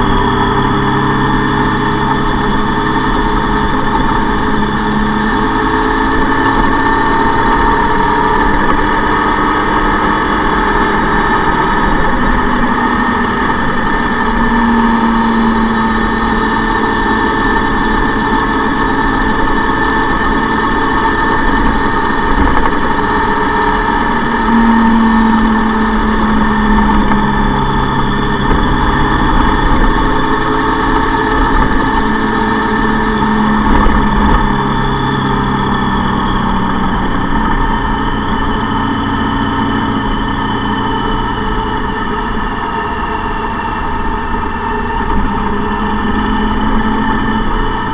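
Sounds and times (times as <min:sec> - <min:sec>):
motorcycle engine running: 0:00.0 - 0:47.9
wind and road noise: 0:00.0 - 0:47.9.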